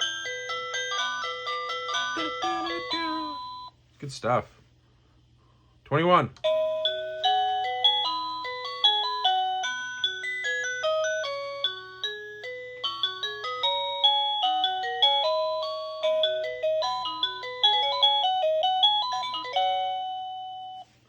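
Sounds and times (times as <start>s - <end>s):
electronic doorbell melody: 0.0s - 3.8s, 6.4s - 21.0s.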